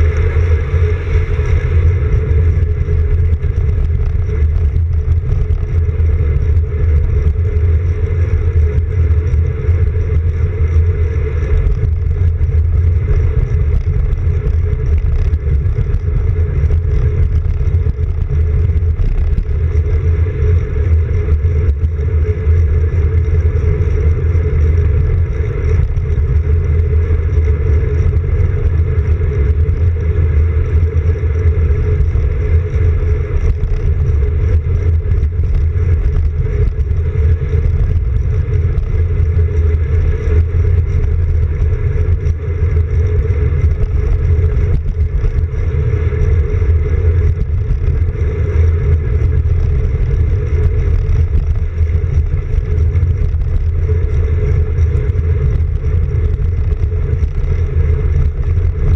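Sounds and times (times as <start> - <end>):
bike road vibration: 0.0 - 58.9.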